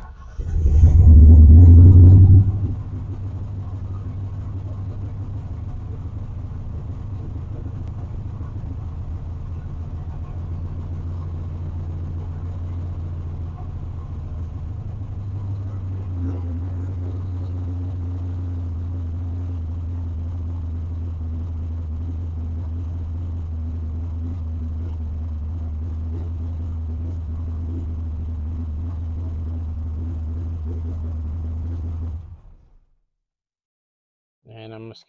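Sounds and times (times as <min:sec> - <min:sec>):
car engine idling: 0:00.0 - 0:32.8.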